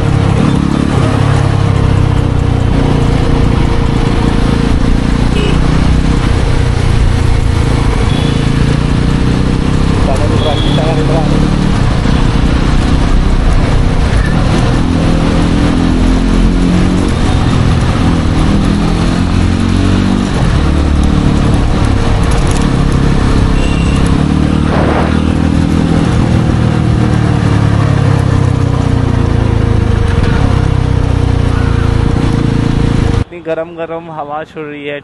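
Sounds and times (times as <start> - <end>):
motorcycle engine: 0.0 - 33.3
wind and road noise: 0.0 - 33.9.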